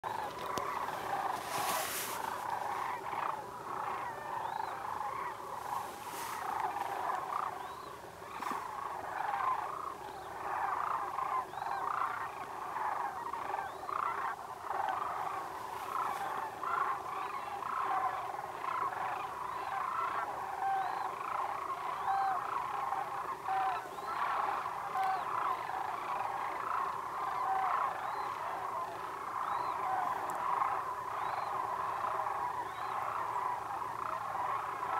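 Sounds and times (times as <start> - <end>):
cranes calling: 0.0 - 34.9.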